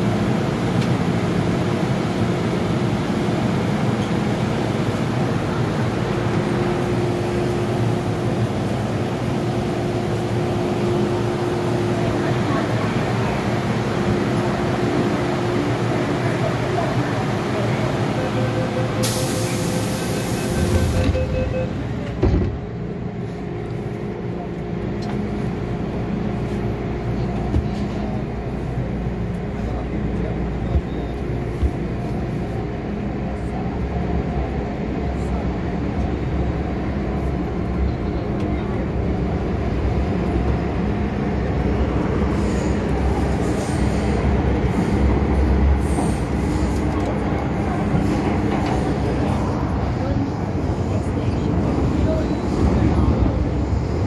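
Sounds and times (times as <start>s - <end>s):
train running on rails: 0.0s - 54.0s.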